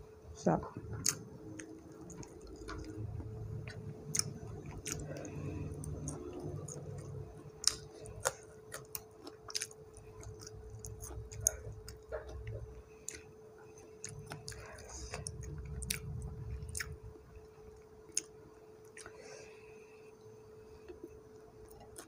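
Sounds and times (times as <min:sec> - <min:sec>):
faint steady hum: 0:00.0 - 0:22.0
person chewing close to microphone: 0:00.8 - 0:17.0, 0:18.1 - 0:19.2, 0:20.9 - 0:22.0.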